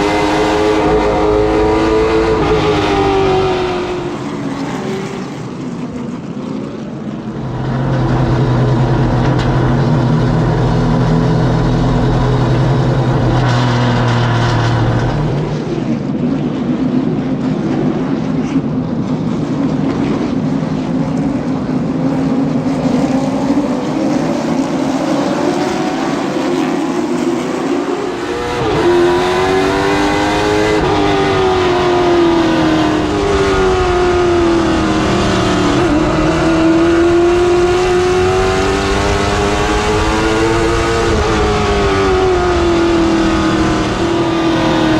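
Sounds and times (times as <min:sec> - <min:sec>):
race car engines: 0:00.0 - 0:44.9.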